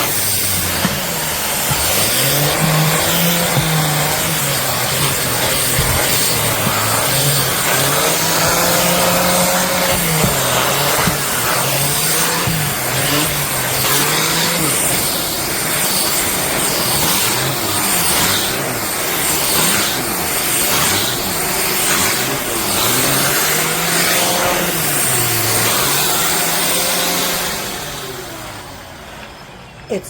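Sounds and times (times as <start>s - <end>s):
upright vacuum cleaner whirring: 0.0s - 30.0s.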